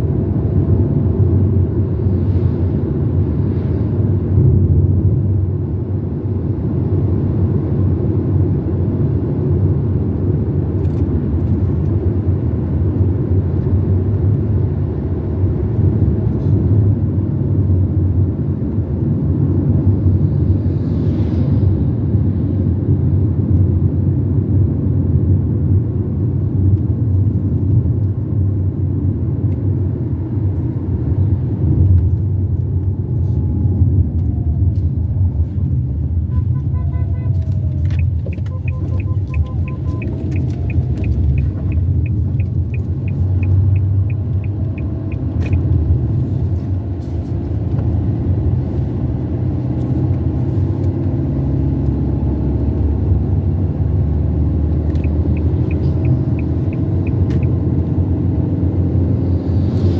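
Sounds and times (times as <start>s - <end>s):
car road rumble: 0.0s - 59.9s.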